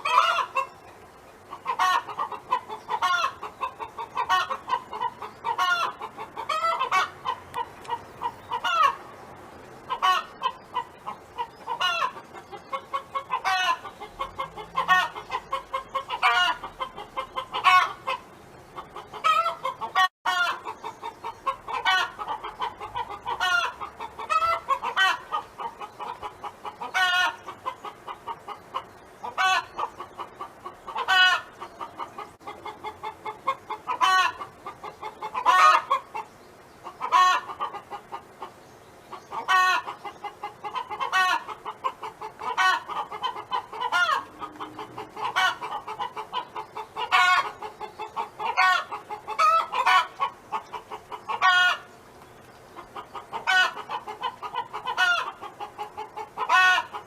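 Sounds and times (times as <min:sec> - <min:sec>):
hen clucking: 0:00.0 - 0:09.2, 0:09.8 - 0:57.0.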